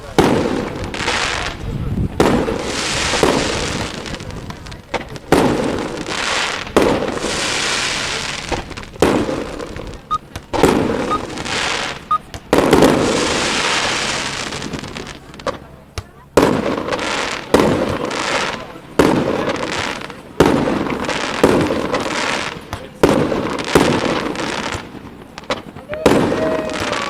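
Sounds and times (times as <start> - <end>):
firework shells bursting: 0.0 - 27.0
fireworks hissing crackle: 0.0 - 27.0.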